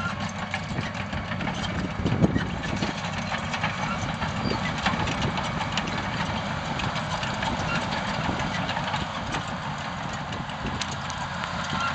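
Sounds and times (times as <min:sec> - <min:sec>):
bulldozer diesel engine running: 0:00.0 - 0:11.9.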